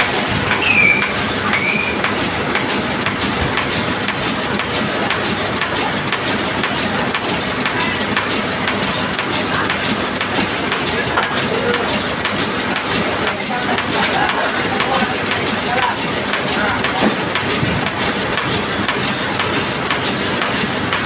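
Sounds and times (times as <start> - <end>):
dense machinery noise: 0.0 - 21.0
faint voices: 0.4 - 21.0.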